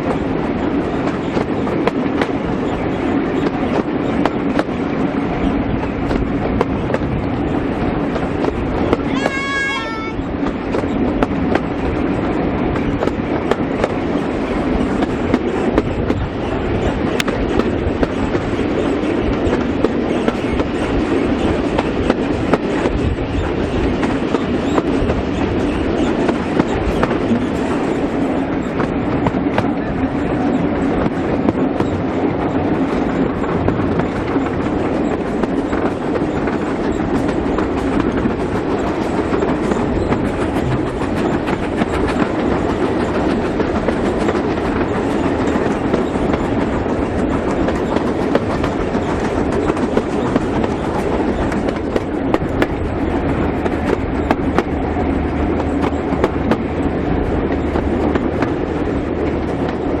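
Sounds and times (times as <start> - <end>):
train running on rails: 0.0 - 60.0.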